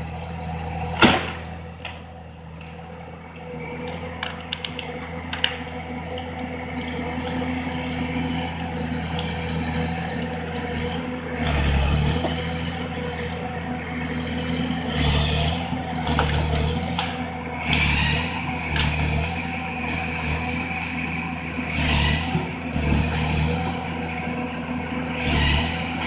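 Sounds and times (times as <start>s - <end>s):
diesel engine surging: 0.0s - 26.0s.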